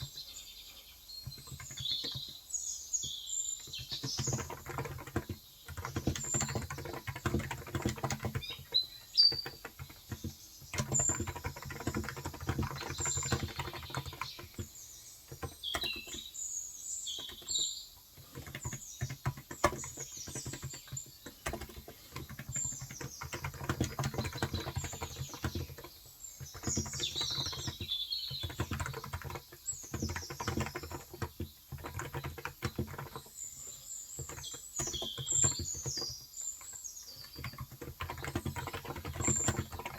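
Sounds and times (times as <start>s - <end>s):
birds chirping: 0.0s - 39.9s
keyboard typing: 1.2s - 16.4s, 17.1s - 39.9s.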